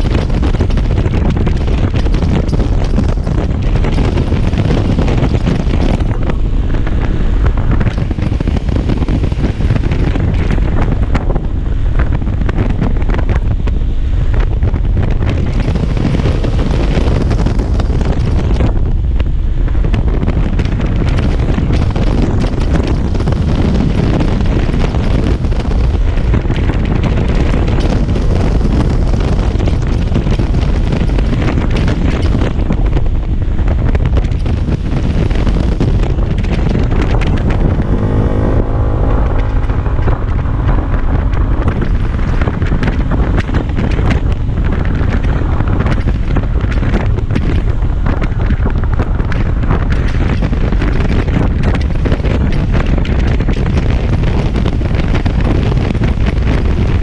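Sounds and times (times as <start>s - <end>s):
road noise: 0.0s - 57.0s
wind buffeting microphone: 0.0s - 57.0s.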